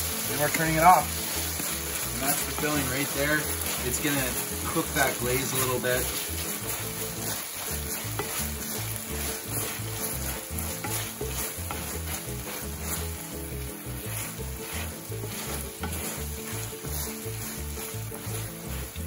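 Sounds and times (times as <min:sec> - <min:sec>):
mushrooms sizzling in a skillet: 0:00.0 - 0:19.0
wooden spatula stirring: 0:00.0 - 0:19.0.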